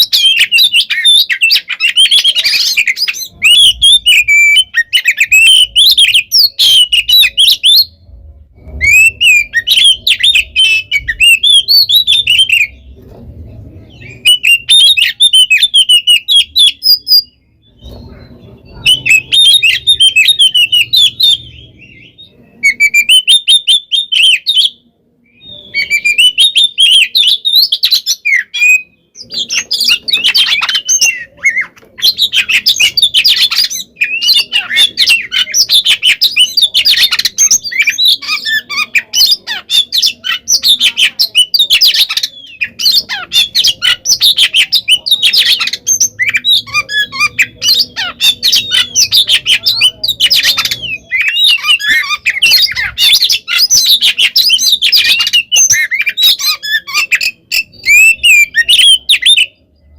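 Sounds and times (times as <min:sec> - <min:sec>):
songbird singing loudly: 0:00.0 - 0:08.0, 0:13.9 - 0:59.9.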